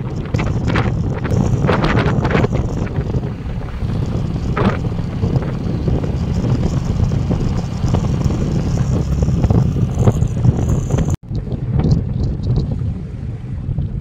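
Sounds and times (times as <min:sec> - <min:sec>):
road noise: 0:00.0 - 0:13.9
wind buffeting microphone: 0:00.0 - 0:14.0.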